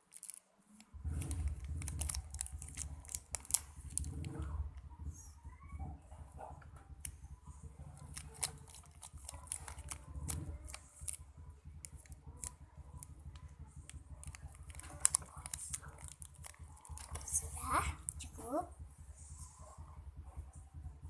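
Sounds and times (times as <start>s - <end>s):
handling clicks and rustles: 0.0s - 17.4s
low steady hum: 0.0s - 21.0s.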